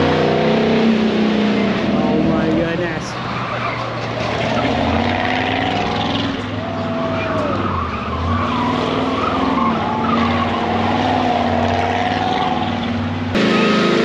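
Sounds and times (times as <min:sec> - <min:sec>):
truck engine running hard: 0:00.0 - 0:14.0.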